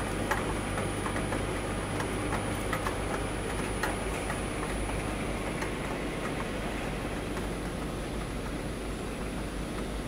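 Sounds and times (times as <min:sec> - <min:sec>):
machine hum and rush: 0:00.0 - 0:10.0.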